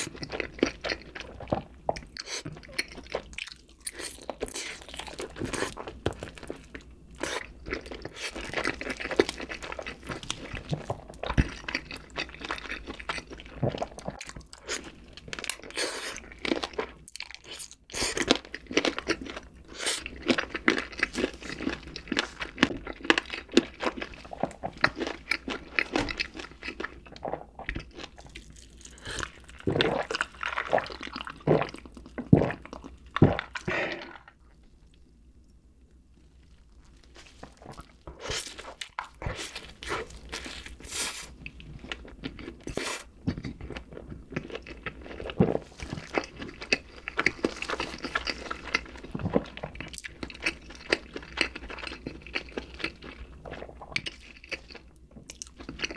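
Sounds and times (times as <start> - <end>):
person crunching and chewing food: 0.0 - 35.0, 36.2 - 55.9.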